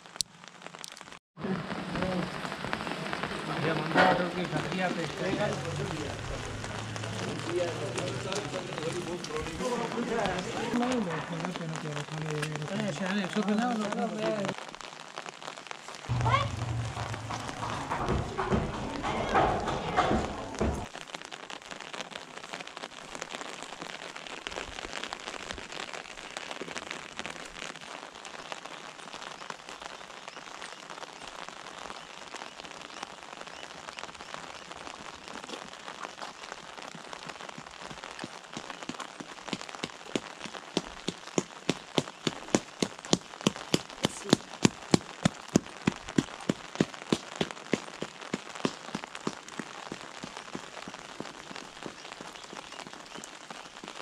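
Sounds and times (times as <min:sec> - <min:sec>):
rain on an umbrella: 0:00.0 - 0:54.0.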